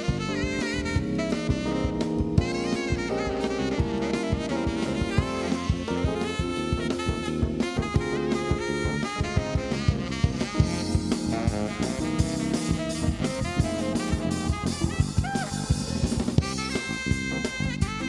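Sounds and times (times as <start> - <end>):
drum kit groove: 0.0 - 18.0
electric bass: 0.0 - 18.0
keyboards: 0.0 - 18.0
saxophone solo: 0.0 - 18.0.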